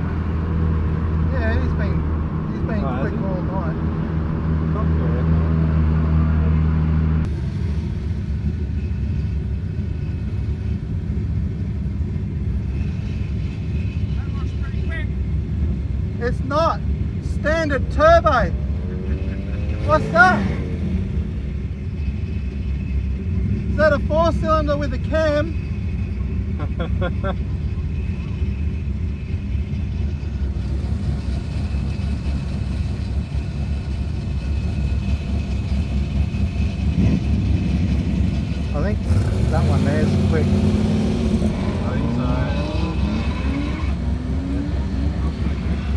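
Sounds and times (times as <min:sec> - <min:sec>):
car engine running at low revs: 0:00.0 - 0:45.9.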